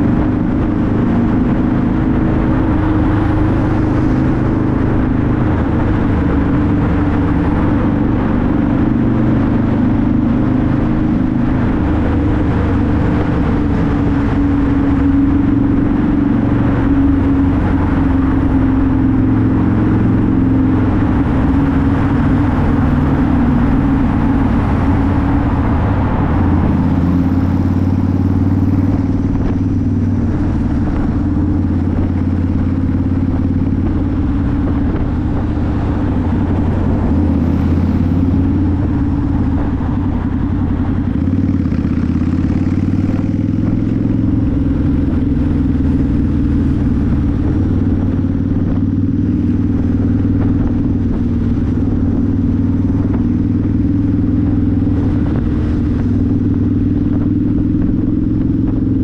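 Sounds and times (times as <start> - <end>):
motorcycle engine cruising: 0.0 - 59.0
road noise: 0.0 - 59.0
surrounding traffic: 0.0 - 59.0.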